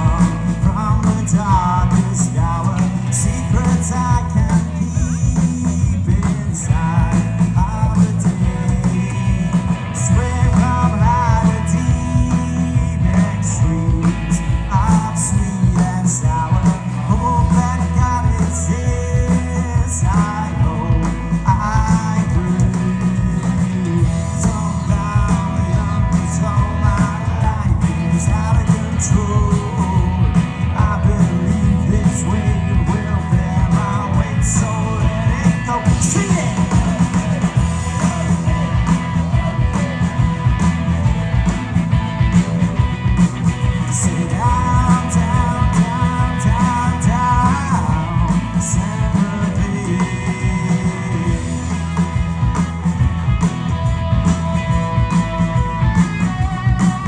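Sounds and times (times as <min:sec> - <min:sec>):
heavy bass line: 0:00.0 - 0:57.0
rock band playing: 0:00.0 - 0:57.0
steady drum beat: 0:00.0 - 0:57.0.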